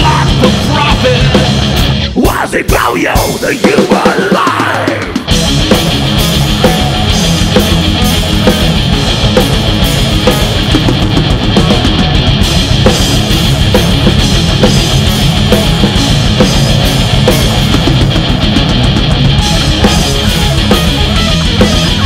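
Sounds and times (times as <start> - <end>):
distorted electric guitars: 0.0 - 22.0
driving drum kit: 0.0 - 22.0.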